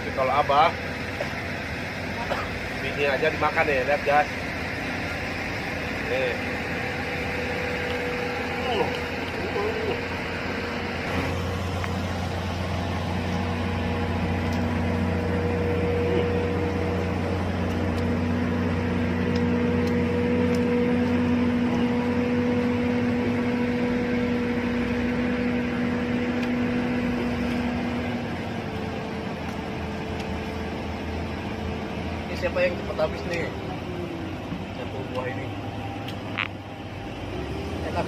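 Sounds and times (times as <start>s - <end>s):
machine drone with held tone: 0.0s - 31.8s.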